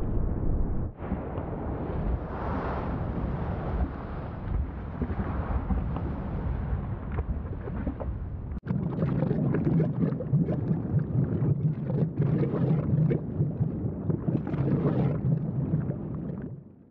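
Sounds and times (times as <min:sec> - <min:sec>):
lava rumbling and spattering: 0:00.0 - 0:16.8.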